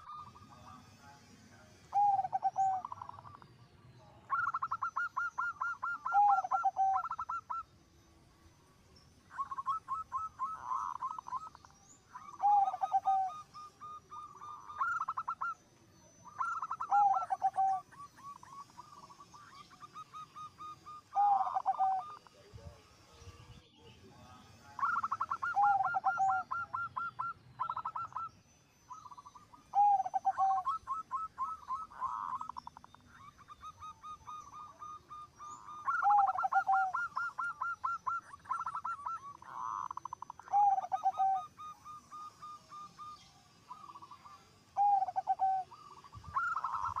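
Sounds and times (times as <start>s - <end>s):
dove cooing: 0.0s - 0.8s, 1.7s - 3.4s, 4.2s - 7.7s, 9.3s - 23.1s, 24.6s - 28.3s, 28.9s - 47.0s
faint trills of other doves: 0.0s - 47.0s.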